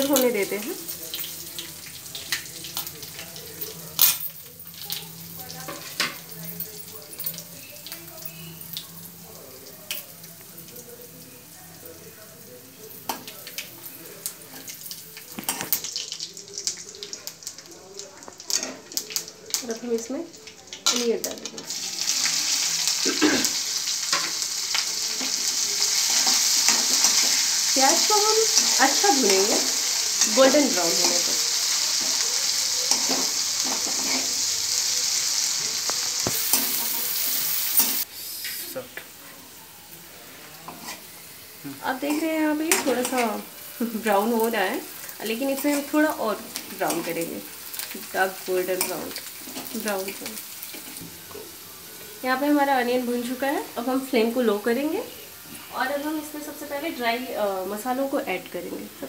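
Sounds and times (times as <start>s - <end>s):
hot oil sizzling: 0.0s - 59.0s
spices crackling and popping: 0.0s - 59.0s.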